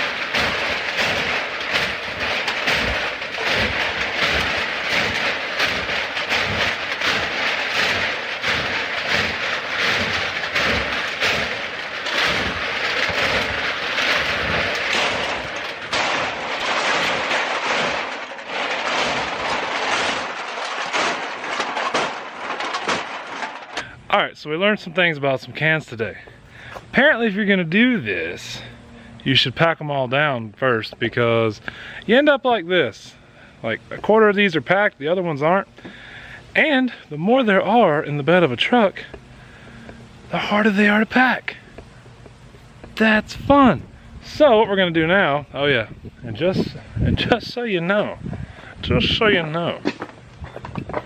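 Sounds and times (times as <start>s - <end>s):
aluminum cans crunching underfoot: 0.0s - 27.1s, 32.9s - 51.0s.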